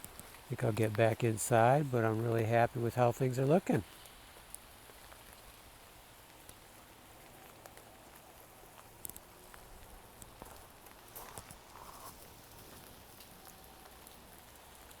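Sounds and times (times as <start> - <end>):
light rain hiss: 0.0 - 15.0
raindrop ticks: 0.0 - 15.0.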